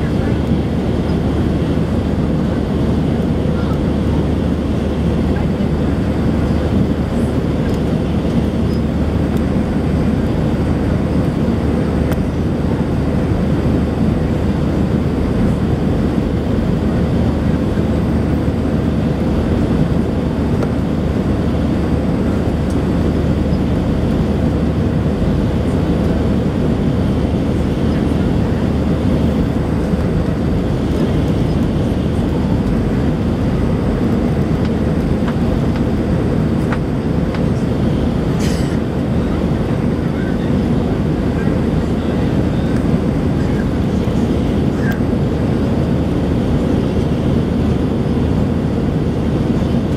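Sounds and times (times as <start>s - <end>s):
aircraft cabin engine and airflow noise: 0.0s - 49.9s.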